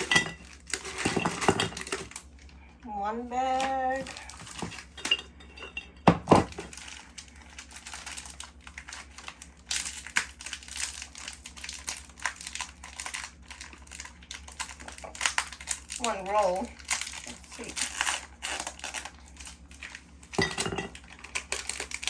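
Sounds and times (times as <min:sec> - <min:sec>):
plastic wrapper crinkling: 0:00.0 - 0:02.8, 0:03.5 - 0:05.1, 0:06.4 - 0:22.0.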